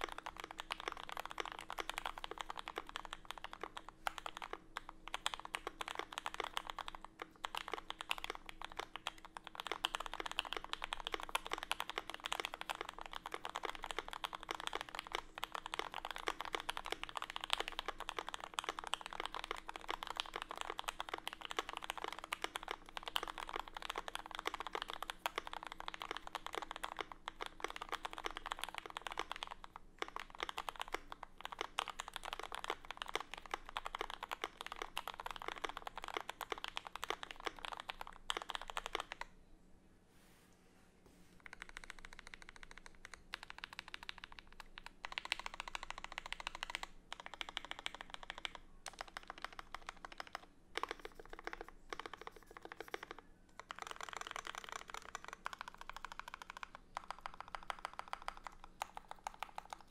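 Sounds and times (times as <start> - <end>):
fast mechanical keyboard typing: 0.0 - 39.3, 41.4 - 59.9.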